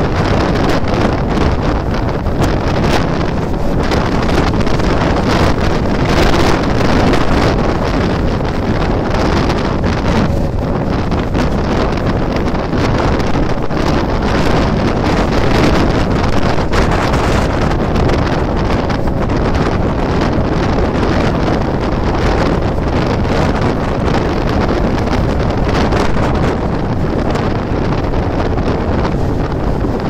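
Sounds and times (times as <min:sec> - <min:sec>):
train wheels on rails: 0:00.0 - 0:30.0
wind buffeting microphone: 0:00.0 - 0:30.0.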